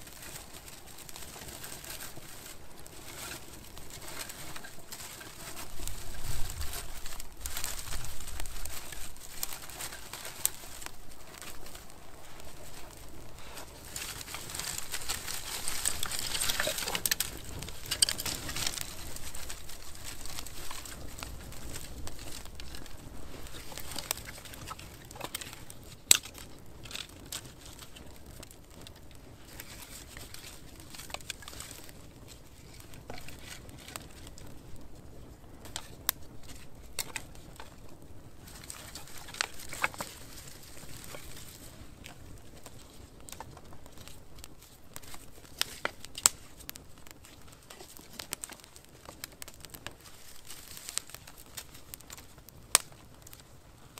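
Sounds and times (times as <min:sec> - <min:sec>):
light clicks and crackles: 0:00.0 - 0:53.9.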